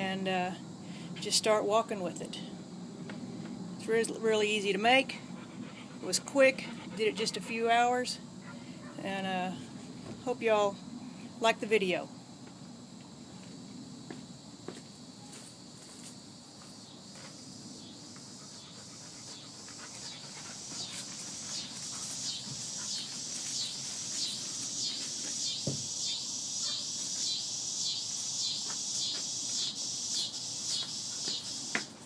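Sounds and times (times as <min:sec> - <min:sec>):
steady high hiss: 0:00.0 - 0:32.0.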